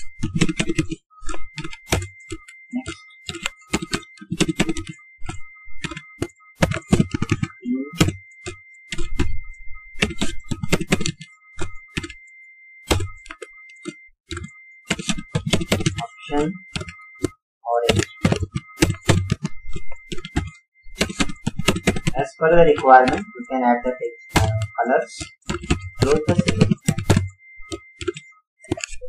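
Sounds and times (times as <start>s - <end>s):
keyboard typing clicks: 0.0s - 29.0s.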